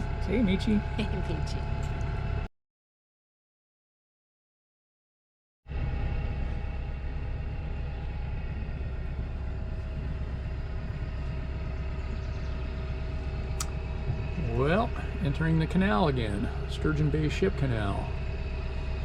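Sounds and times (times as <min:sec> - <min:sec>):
boat engine droning: 0:00.0 - 0:02.5, 0:05.7 - 0:19.0.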